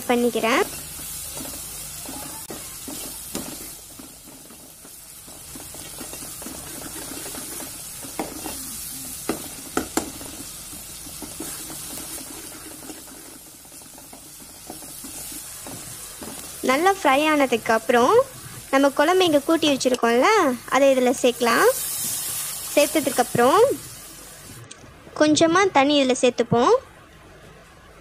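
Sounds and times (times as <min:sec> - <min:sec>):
food sizzling in oil: 0:00.0 - 0:24.6.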